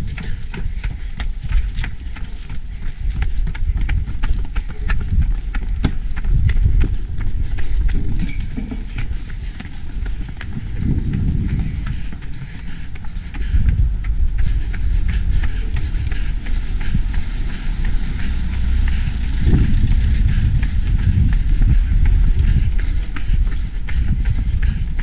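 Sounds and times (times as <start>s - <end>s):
running footsteps on pavement: 0.0s - 25.0s
wind buffeting microphone: 0.0s - 25.0s
low uneven rumble: 0.2s - 24.8s.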